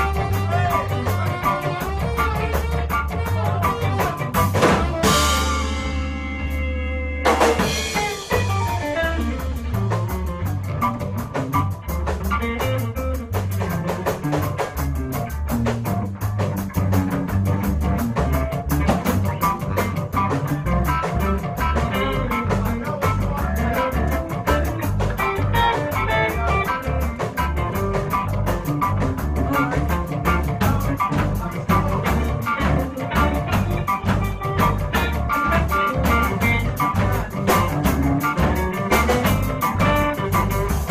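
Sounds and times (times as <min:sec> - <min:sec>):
ska band playing instrumental: 0:00.0 - 0:40.9.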